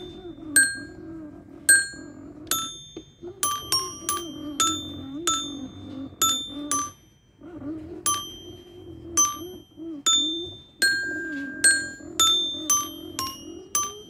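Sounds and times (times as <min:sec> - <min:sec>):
toy metallophone playing a tune: 0:00.0 - 0:01.0, 0:01.7 - 0:07.4, 0:08.0 - 0:14.0.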